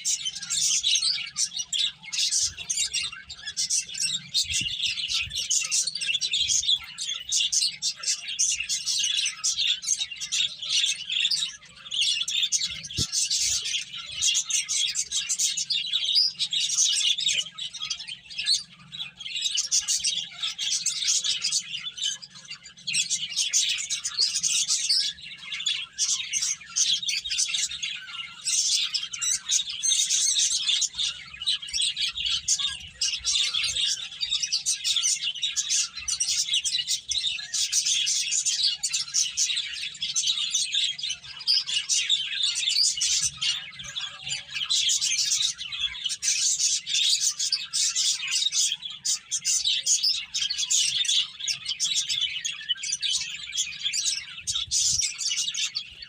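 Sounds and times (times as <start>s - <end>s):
finches chirping: 0.0s - 56.0s.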